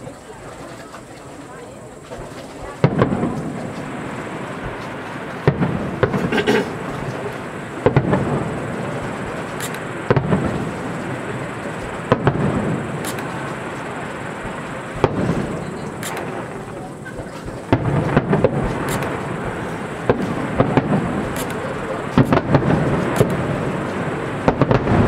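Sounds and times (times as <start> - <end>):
firework shells bursting: 0.6 - 25.0
rumbling echo: 2.8 - 25.0.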